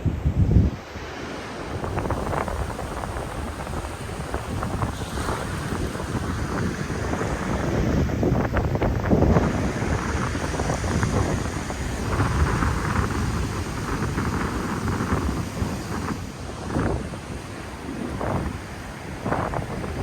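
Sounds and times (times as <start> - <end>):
ocean surf: 0.0 - 20.0
wind buffeting microphone: 0.0 - 20.0.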